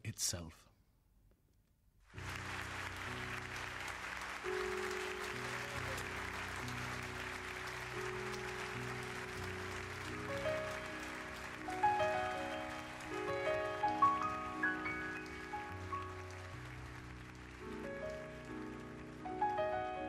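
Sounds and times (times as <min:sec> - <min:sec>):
audience applauding: 0:02.1 - 0:20.0
slow music of held chords: 0:02.2 - 0:20.0.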